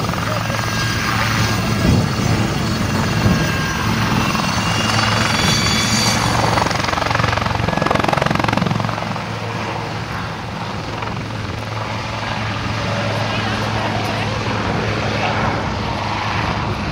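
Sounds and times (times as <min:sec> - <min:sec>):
helicopter rotor chop: 0:00.0 - 0:16.9
high turbine whine: 0:00.0 - 0:16.9.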